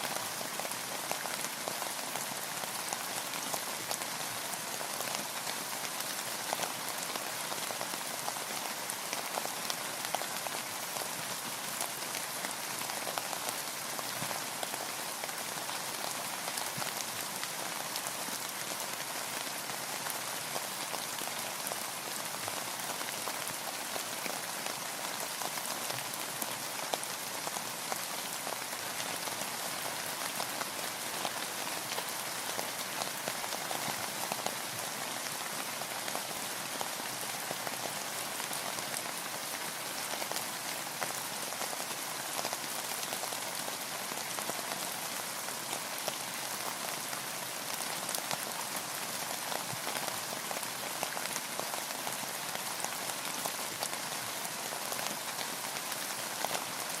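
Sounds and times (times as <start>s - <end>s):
rain pattering on a boat: 0.0s - 57.0s.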